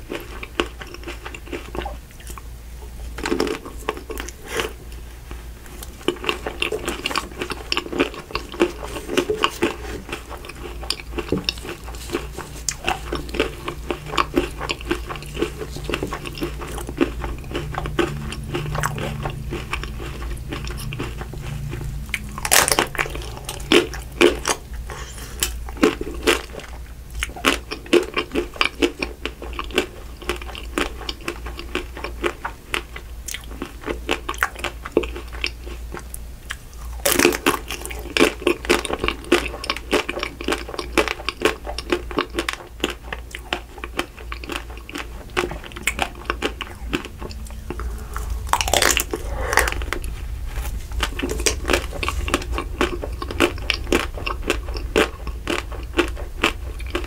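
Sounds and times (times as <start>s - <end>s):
wet chewing: 3.1s - 57.0s
crunching chocolate coating: 5.6s - 57.0s.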